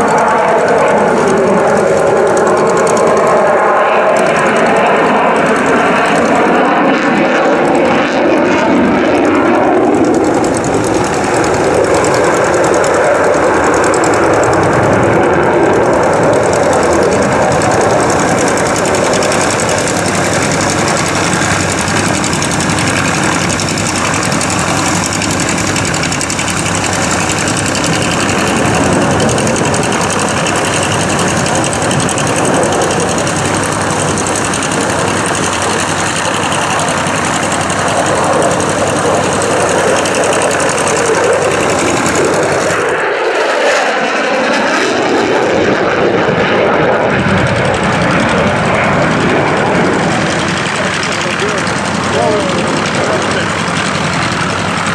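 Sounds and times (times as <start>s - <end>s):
fighter jet engine roar: 0.0s - 54.9s.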